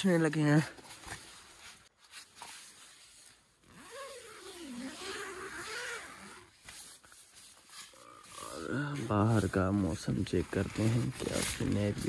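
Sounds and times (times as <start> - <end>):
faint rustle: 0.4 - 12.0
tent zipper being pulled: 1.0 - 12.0.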